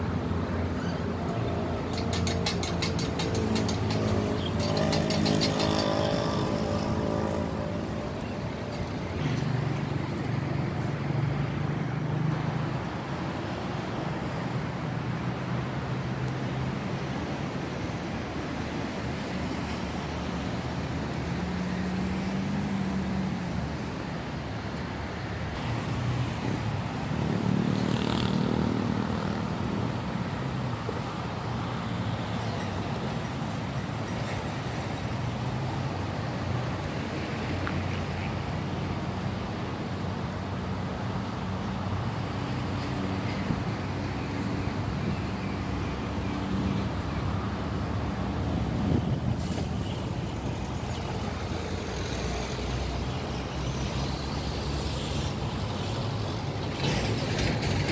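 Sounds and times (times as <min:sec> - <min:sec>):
passing vehicles: 0:00.0 - 0:57.9
steady engine hum: 0:00.0 - 0:57.9.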